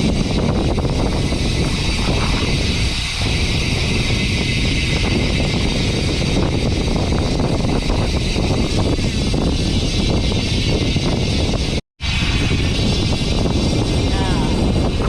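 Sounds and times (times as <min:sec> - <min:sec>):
hiss: 0:00.0 - 0:15.0
loud steady rumbling: 0:00.0 - 0:15.0.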